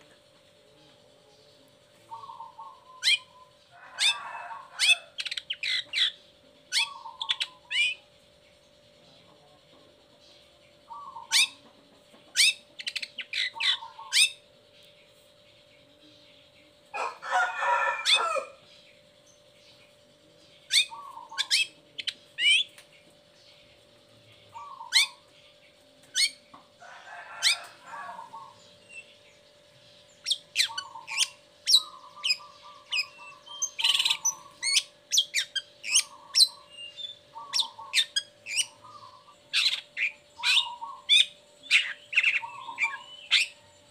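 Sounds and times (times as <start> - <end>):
faint steady hum: 0.0 - 43.9
harsh raspy bird chatter: 0.0 - 43.9.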